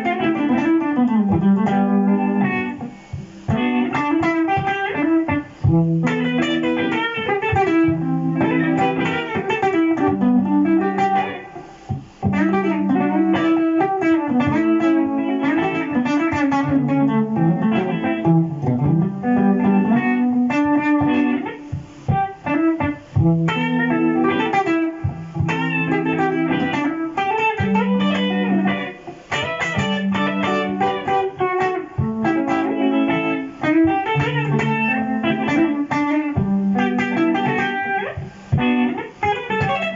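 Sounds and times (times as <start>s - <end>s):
electric guitar jazz lines: 0.0s - 39.9s.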